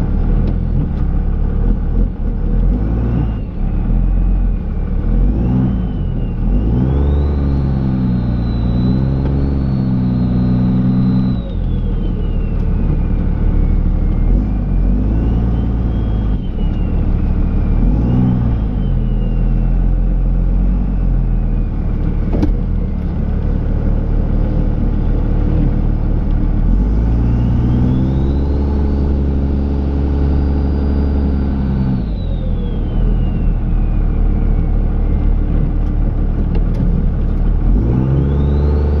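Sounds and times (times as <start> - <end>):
diesel engine revving: 0.0 - 39.0
high turbo whine: 0.0 - 39.0.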